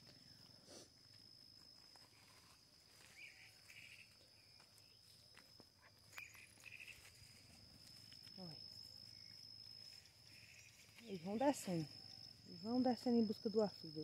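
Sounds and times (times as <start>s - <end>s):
faint chirps: 1.8s - 14.0s.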